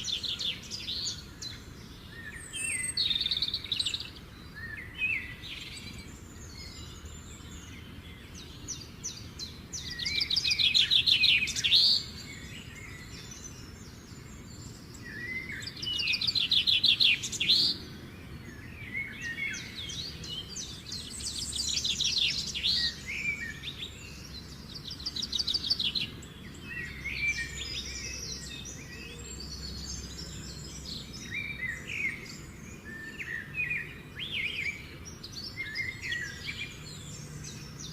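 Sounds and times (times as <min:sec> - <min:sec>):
songbirds chirping and trilling: 0:00.0 - 0:37.9.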